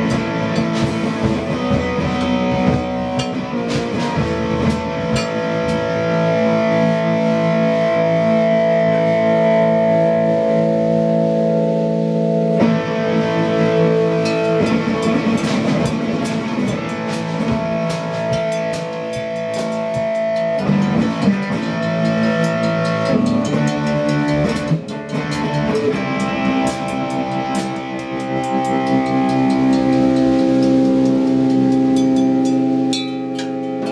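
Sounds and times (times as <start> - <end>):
distorted electric guitar: 0.0 - 33.9
drums and cymbals: 0.0 - 33.9.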